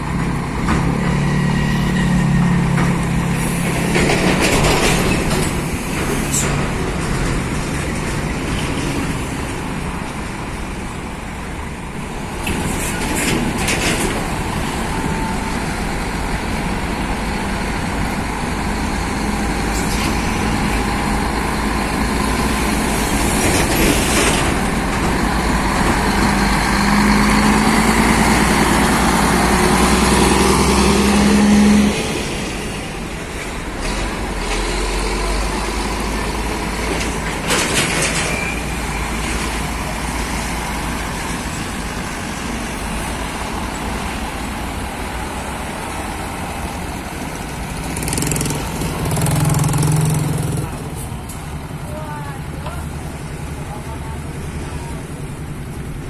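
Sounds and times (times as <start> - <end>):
truck diesel engine under load: 0.0 - 56.0.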